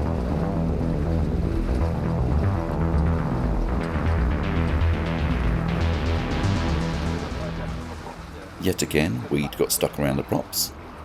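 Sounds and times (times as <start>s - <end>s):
background music with bass line: 0.0s - 9.2s.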